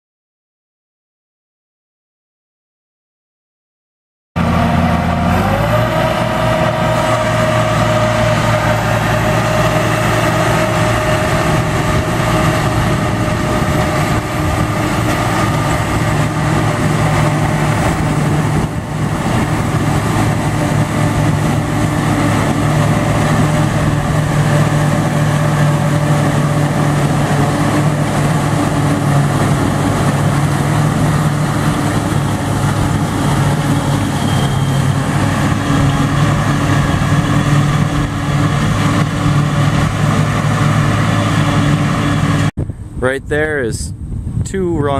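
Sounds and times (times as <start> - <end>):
tractor engine under load: 4.4 - 43.1
forage harvester whine: 4.4 - 44.9.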